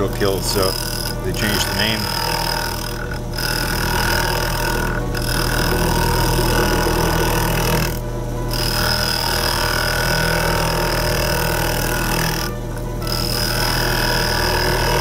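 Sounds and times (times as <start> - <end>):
chisel scraping spinning wood: 0.0 - 15.0
wood lathe humming: 0.0 - 15.0.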